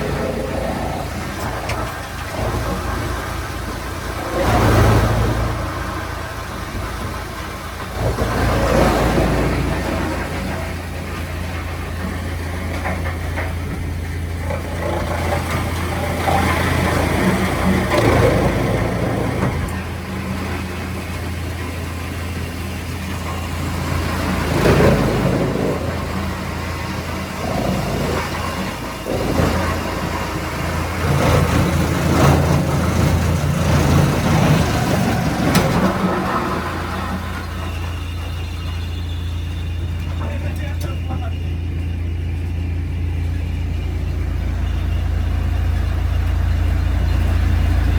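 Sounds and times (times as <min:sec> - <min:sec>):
engine idling: 0:00.0 - 0:47.9
faint engine knocks: 0:00.0 - 0:47.9.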